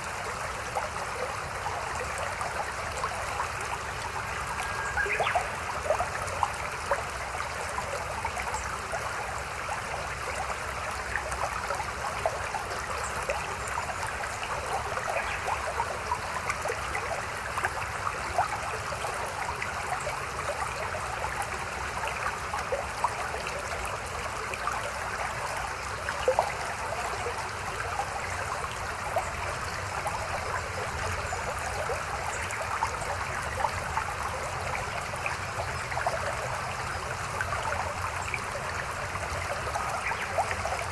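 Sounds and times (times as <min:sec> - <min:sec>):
river babbling: 0:00.0 - 0:40.9.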